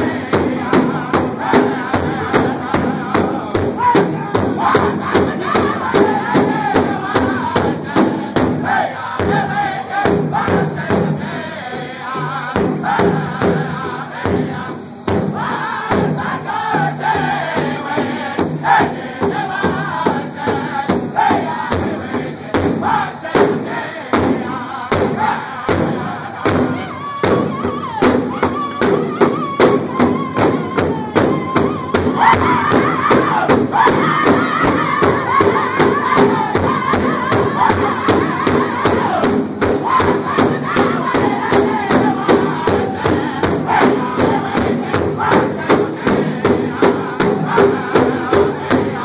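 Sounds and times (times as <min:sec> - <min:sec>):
large hide drum beating: 0:00.0 - 0:49.0
men singing together: 0:00.0 - 0:49.0.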